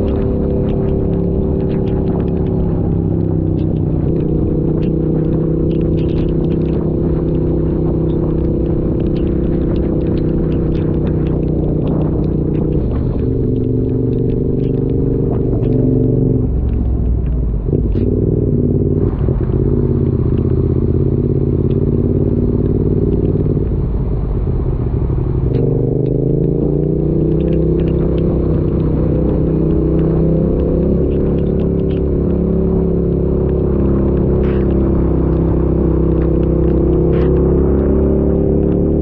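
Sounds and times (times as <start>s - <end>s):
motorcycle engine revving: 0.0s - 39.0s
rain ticking and crackling: 0.0s - 39.0s.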